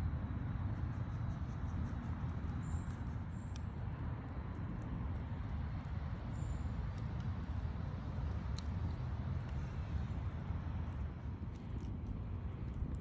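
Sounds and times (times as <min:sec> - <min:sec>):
fire crackling: 0:00.0 - 0:13.0
wood fire rumbling: 0:02.2 - 0:13.0.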